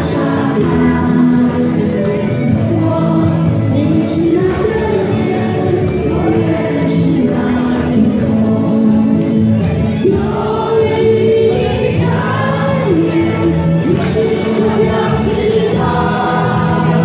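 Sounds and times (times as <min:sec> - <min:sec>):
choir singing folk song: 0:00.0 - 0:17.0.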